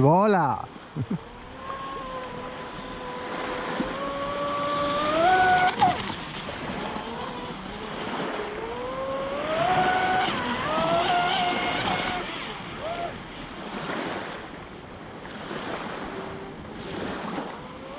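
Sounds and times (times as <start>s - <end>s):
water wash: 0.0s - 17.9s
wind: 0.0s - 17.9s
electric boat motor whining: 0.7s - 17.9s.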